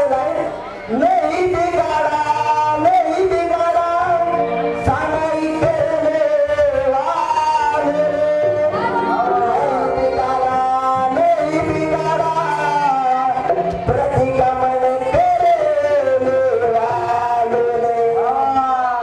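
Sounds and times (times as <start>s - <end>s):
instrumental accompaniment: 0.0s - 19.0s
men singing through microphones: 0.0s - 19.0s.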